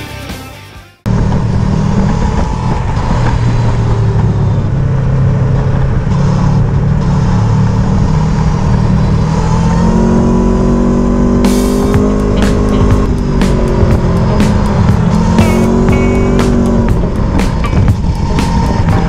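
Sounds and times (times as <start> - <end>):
motorcycle engine accelerating: 1.0 - 19.0.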